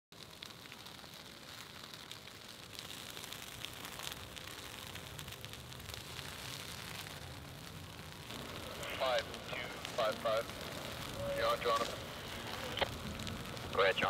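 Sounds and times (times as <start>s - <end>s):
fire crackling and popping: 0.1s - 14.0s
fire hissing: 0.2s - 14.0s.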